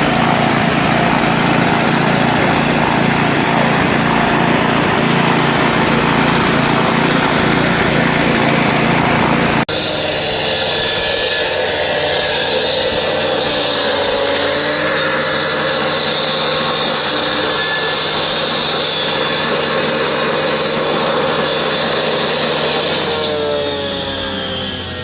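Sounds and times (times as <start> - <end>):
power tool grinding: 0.0 - 25.0.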